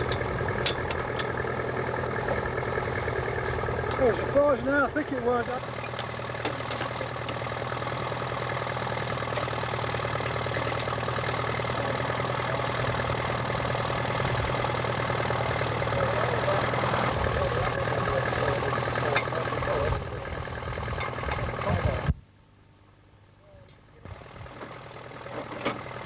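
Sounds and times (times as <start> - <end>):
tractor engine idling: 0.0 - 22.2, 23.2 - 26.0.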